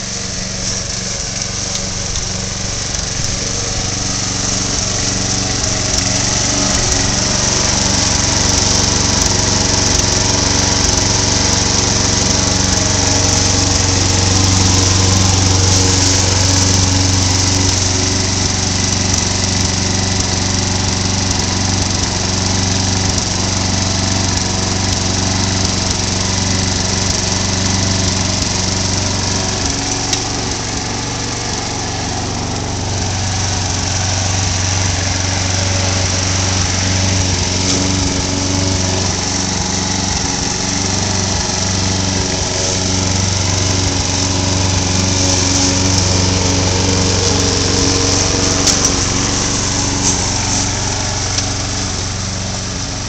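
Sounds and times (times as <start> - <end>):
push mower engine running: 0.0 - 53.0.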